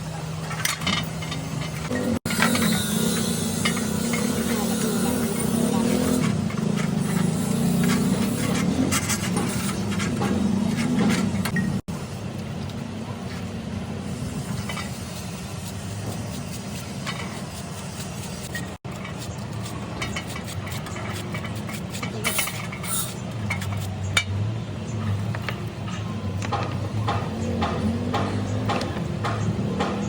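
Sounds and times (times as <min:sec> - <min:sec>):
low workshop hum: 0:00.0 - 0:30.0.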